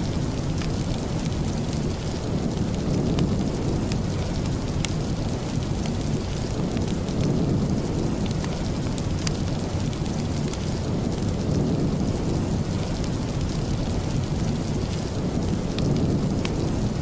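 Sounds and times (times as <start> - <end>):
rain with rumbling hiss: 0.0 - 17.0.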